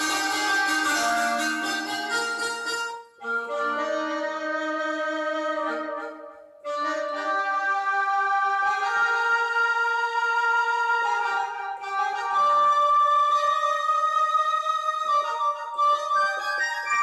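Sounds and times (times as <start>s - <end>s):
keyboard melody with held notes: 0.0s - 17.0s.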